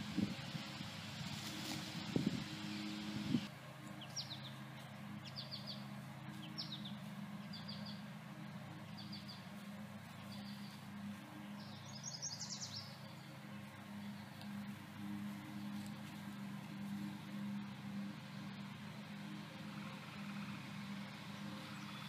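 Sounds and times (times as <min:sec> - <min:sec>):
steady low hum: 0:00.0 - 0:22.0
songbird chirping: 0:00.4 - 0:22.0.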